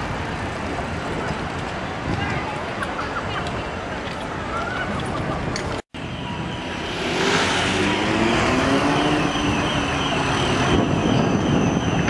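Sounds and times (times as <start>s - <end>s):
tram running noise: 0.0s - 12.0s.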